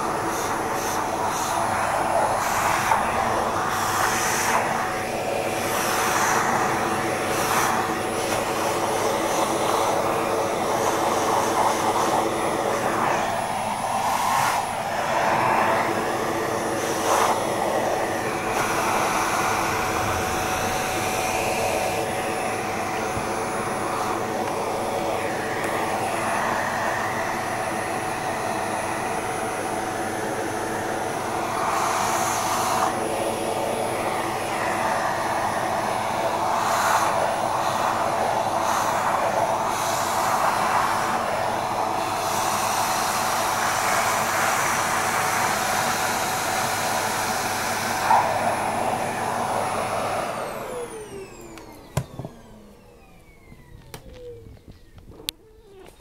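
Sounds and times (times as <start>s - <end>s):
vacuum cleaner running: 0.0s - 56.0s
vacuum motor winding down: 1.0s - 55.0s.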